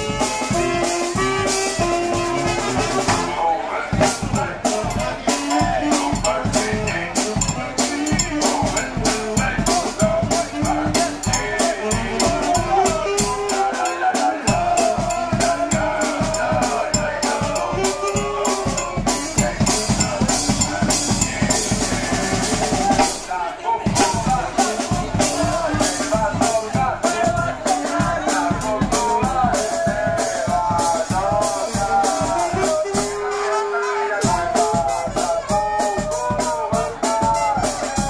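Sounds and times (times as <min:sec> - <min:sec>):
bass drum and snare beat: 0:00.0 - 0:33.4, 0:34.2 - 0:38.0
brass melody: 0:00.0 - 0:38.0.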